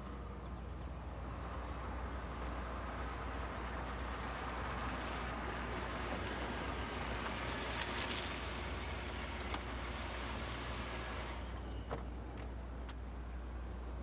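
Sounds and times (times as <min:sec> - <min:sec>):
vehicle running rumble and hiss: 0:00.0 - 0:14.0.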